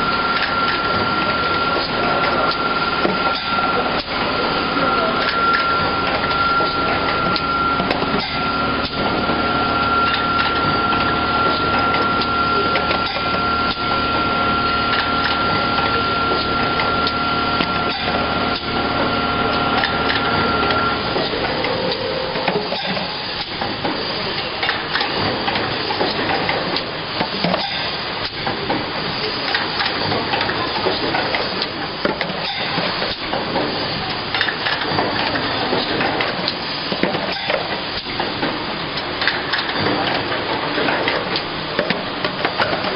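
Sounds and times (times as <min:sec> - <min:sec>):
steady high whine: 0:00.0 - 0:35.8
continuous machine hiss: 0:00.0 - 0:42.9.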